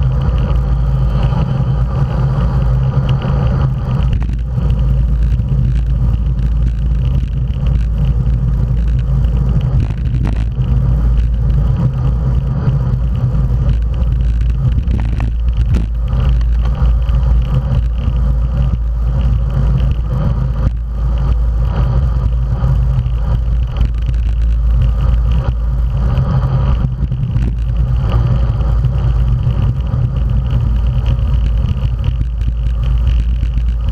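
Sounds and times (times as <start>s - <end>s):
tyre noise on asphalt: 0.0s - 33.9s
wind rumble on microphone: 0.0s - 33.9s.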